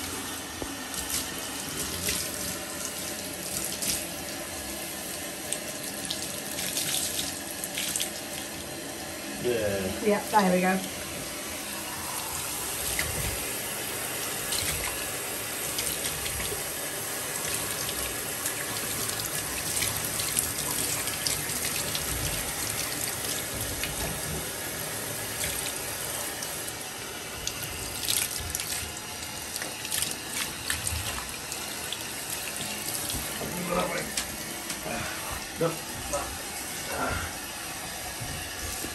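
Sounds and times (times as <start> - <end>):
shower water spraying: 0.0 - 38.9.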